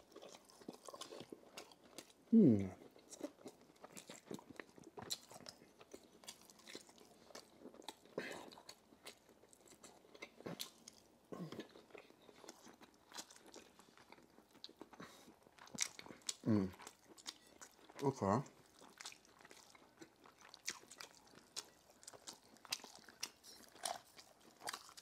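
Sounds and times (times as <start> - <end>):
chewing with wet mouth clicks: 0.0 - 2.2, 2.8 - 25.0.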